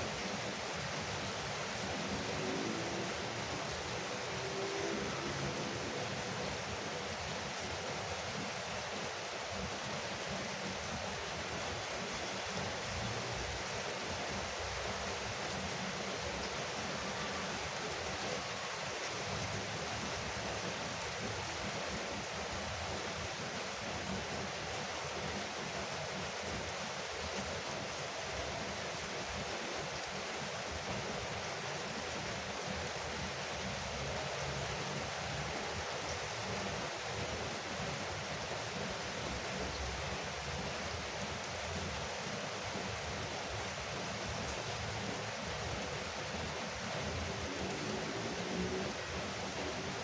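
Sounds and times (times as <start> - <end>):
heavy rain on a roof: 0.0 - 50.0.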